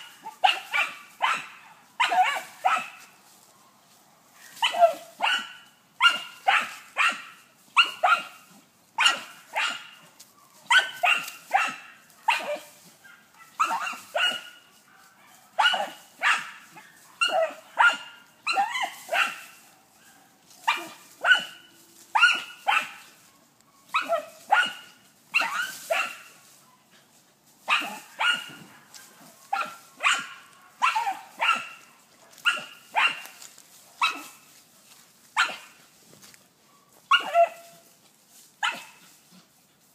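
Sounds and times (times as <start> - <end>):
dog barking: 0.0 - 3.1, 4.3 - 23.1, 23.8 - 26.3, 27.7 - 34.4, 35.4 - 35.8, 37.1 - 37.8, 38.6 - 39.0.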